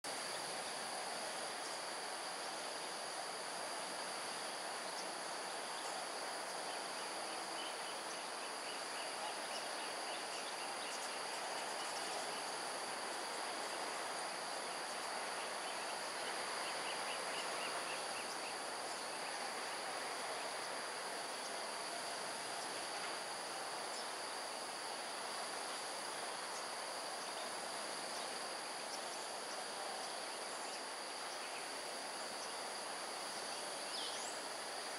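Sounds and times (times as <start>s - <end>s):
forest ambience: 0.0s - 34.9s
high-pitched insect chorus: 0.1s - 34.9s.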